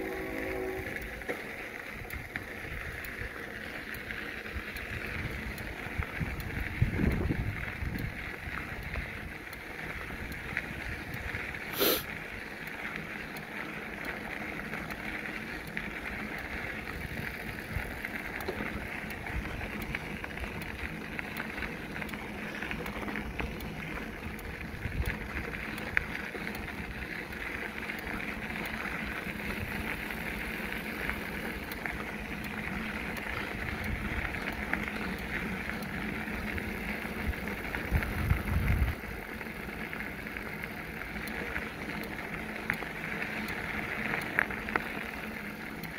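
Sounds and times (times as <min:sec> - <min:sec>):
bicycle tyre and wind hiss: 0:00.0 - 0:45.9.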